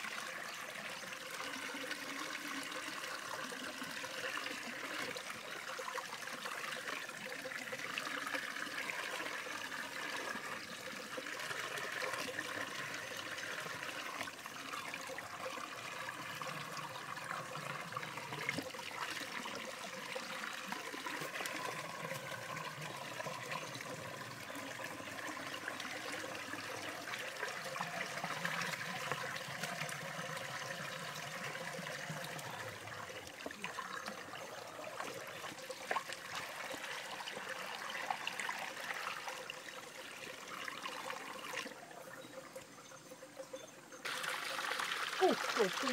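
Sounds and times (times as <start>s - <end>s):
stream trickling over rocks: 0.0s - 45.9s.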